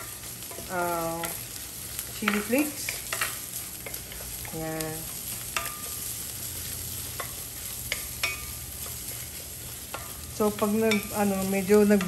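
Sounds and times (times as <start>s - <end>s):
food sizzling in a wok: 0.0s - 12.0s
wooden spatula stirring and scraping: 0.0s - 12.0s.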